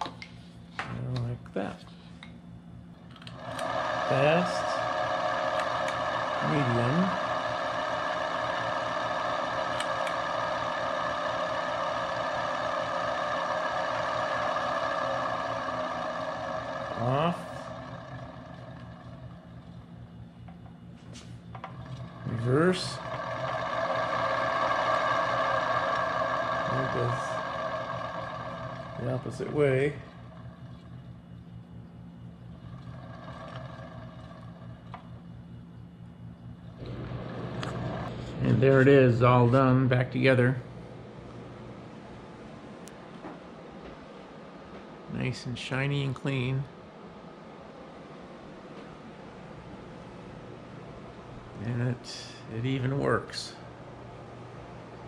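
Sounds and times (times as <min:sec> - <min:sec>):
ceiling fan humming: 0:00.0 - 0:55.0.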